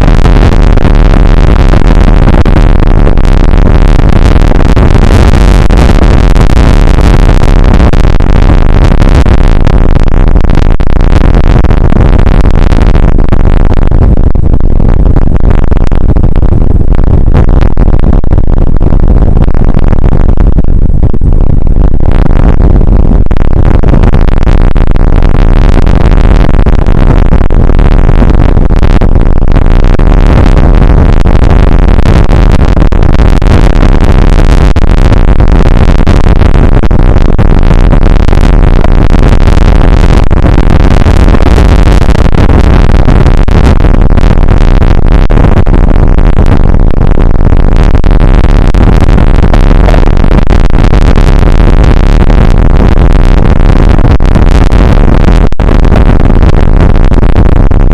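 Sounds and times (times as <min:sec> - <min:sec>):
wind on microphone: 0:00.0 - 0:46.4.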